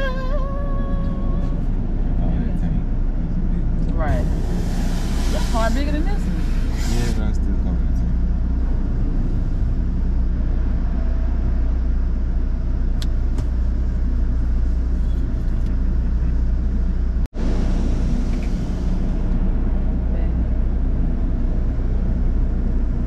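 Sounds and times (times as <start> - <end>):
car engine rumble in cabin: 0.0 - 23.0.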